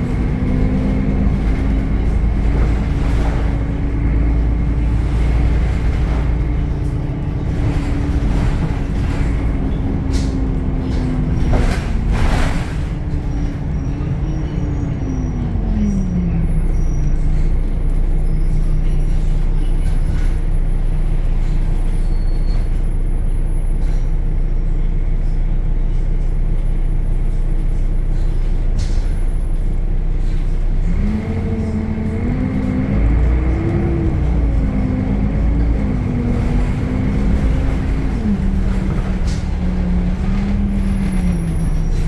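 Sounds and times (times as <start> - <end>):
bus diesel engine: 0.0 - 42.0.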